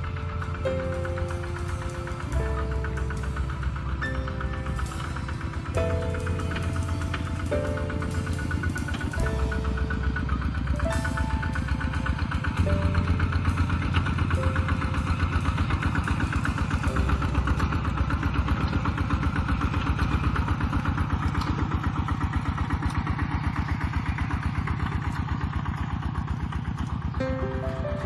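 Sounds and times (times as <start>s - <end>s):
diesel engine chugging: 0.0s - 28.0s.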